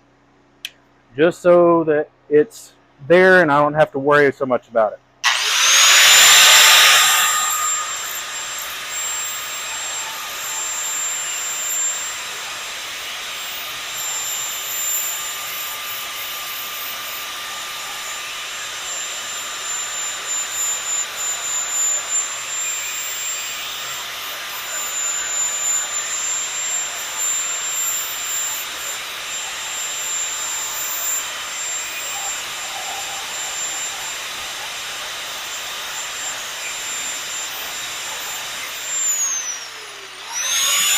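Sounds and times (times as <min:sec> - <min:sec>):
machine hiss with high whine: 0:05.2 - 0:40.9.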